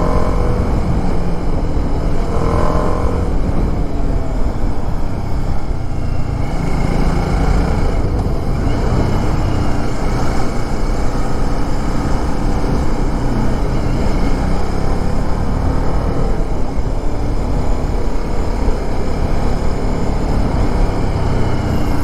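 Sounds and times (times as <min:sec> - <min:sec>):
motorcycle engine and road noise: 0:00.0 - 0:22.0
wind rumble on microphone: 0:00.0 - 0:22.0.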